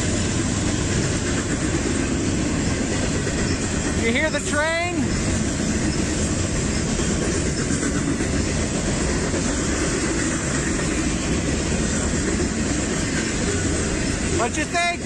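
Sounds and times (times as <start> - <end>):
freight train cars rolling on track: 0.0 - 15.0.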